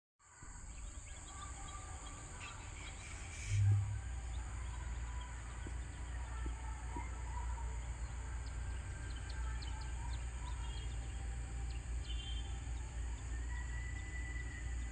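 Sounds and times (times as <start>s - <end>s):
high insect drone: 0.3s - 14.9s
bird chirps: 0.8s - 14.9s
low rumble: 0.9s - 14.9s.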